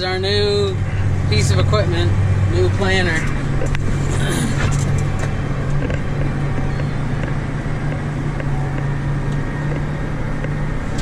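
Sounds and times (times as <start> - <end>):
tractor diesel engine droning: 0.0 - 11.0.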